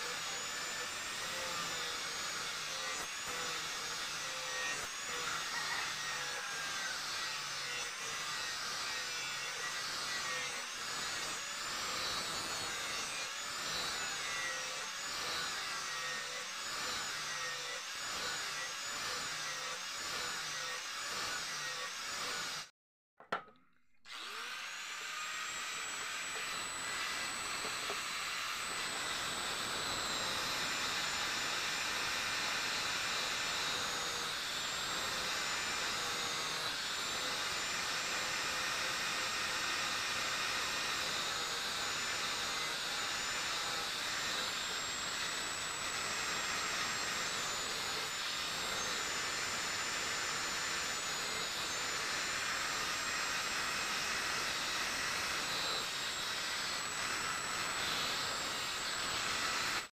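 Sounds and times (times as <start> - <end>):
angle grinder grinding steel: 0.0 - 59.9.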